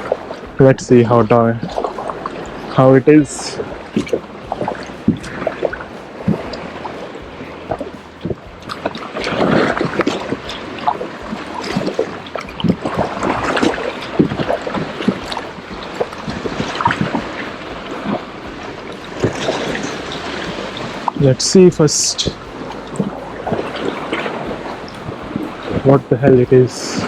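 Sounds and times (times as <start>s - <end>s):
kayak paddle splashing water: 0.0s - 27.0s
water dripping: 0.0s - 27.0s.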